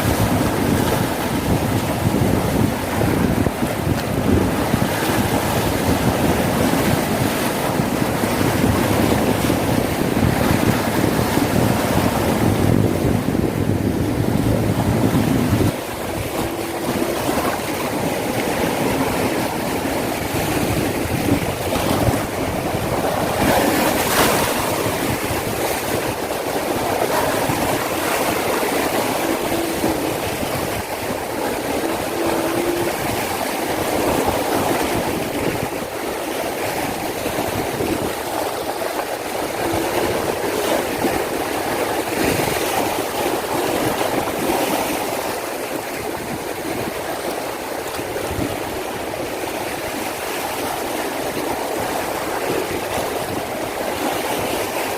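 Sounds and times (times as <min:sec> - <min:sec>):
sea waves breaking on beach: 0:00.0 - 0:54.9
wind rumble on microphone: 0:00.0 - 0:54.9.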